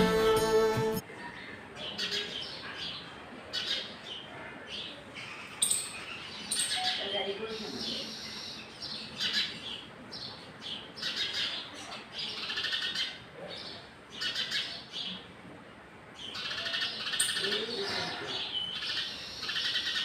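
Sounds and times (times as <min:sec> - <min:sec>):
birds chirping: 0:00.0 - 0:15.3, 0:16.2 - 0:20.0.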